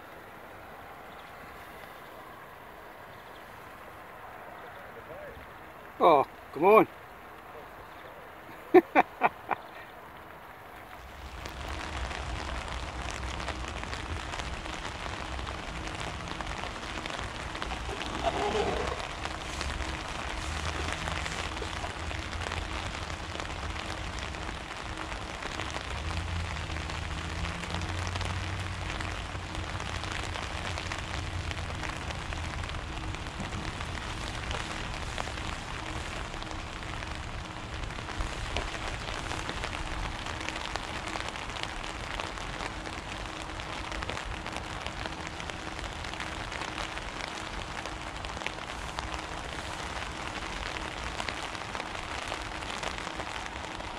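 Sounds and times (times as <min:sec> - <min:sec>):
water pattering on a surface: 0:00.0 - 0:53.9.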